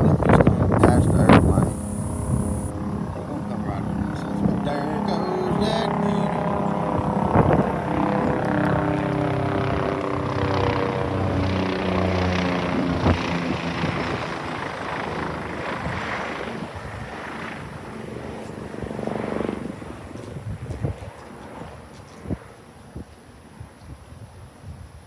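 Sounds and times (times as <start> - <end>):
helicopter flying overhead: 0.0 - 23.8.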